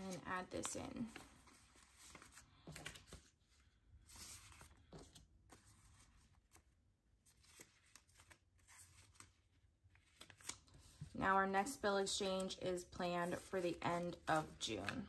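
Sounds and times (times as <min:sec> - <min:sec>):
banknotes rustling against plastic: 0:00.0 - 0:15.0.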